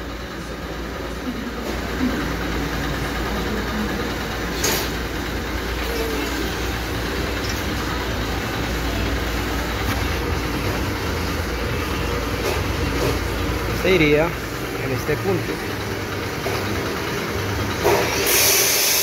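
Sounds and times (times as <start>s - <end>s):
bending press running: 0.0s - 19.0s.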